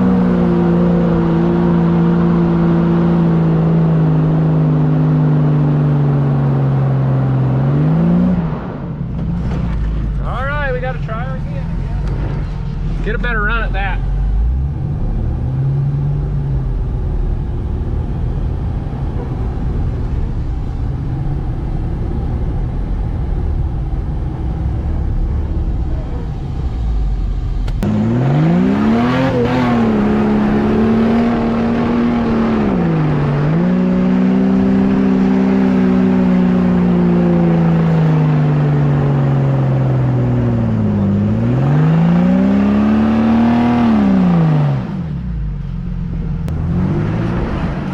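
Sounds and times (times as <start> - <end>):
engine revving under load: 0.0 - 47.9.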